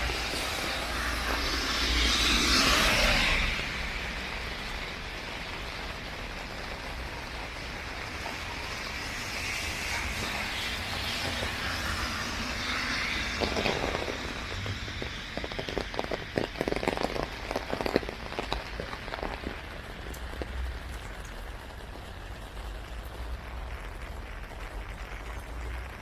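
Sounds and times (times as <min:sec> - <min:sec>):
rain on an umbrella: 0:00.0 - 0:26.0.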